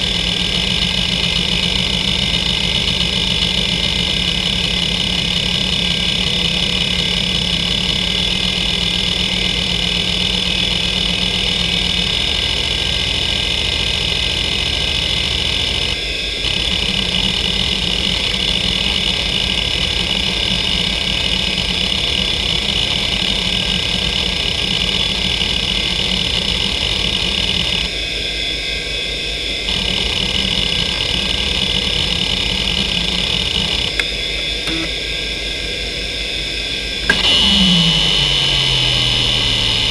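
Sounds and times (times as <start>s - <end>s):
hard drive seek rattle: 0.0s - 27.9s, 29.7s - 35.7s, 36.9s - 39.9s
hard drive spindle whine: 0.0s - 39.9s.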